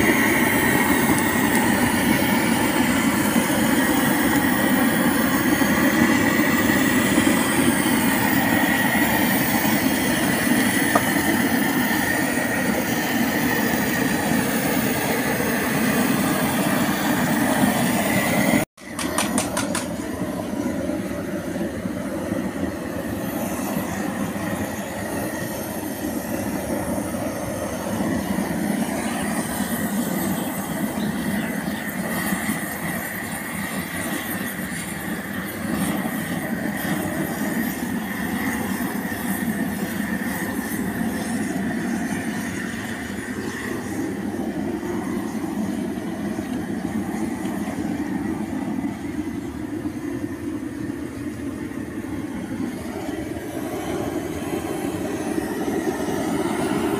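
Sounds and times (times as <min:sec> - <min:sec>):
gas torch burning: 0:00.0 - 0:56.9.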